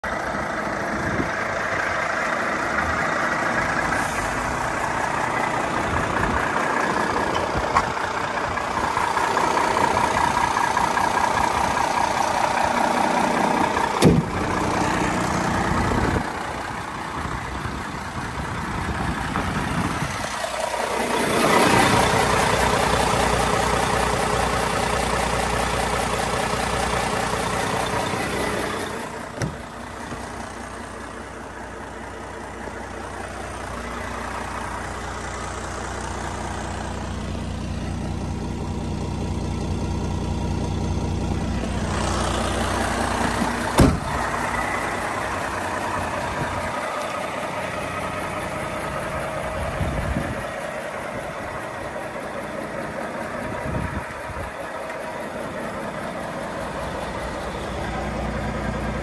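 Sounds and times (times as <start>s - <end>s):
diesel truck idling: 0.0s - 59.0s.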